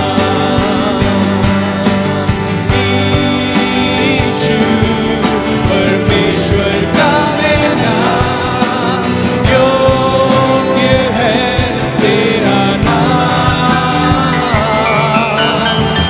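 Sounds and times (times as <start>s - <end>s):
bass: 0.0s - 16.0s
drums: 0.0s - 16.0s
electric guitar lead with bent notes: 0.0s - 16.0s.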